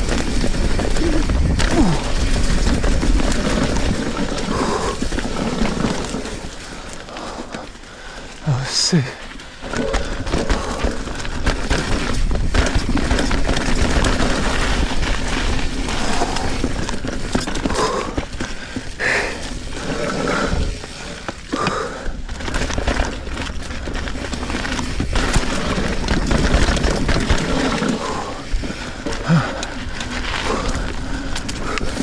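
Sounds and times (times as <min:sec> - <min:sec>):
bike knocks and rattles: 0:00.0 - 0:07.8, 0:09.2 - 0:32.0
bike tyre noise on dirt: 0:00.0 - 0:32.0.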